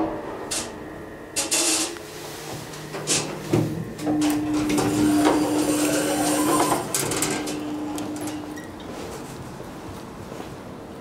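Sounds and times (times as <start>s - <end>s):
elevator door motor humming: 0.0s - 9.8s.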